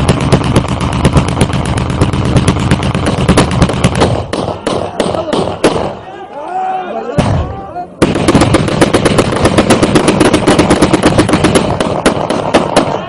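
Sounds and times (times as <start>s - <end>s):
rapid sharp bangs: 0.0s - 6.0s, 7.2s - 13.0s.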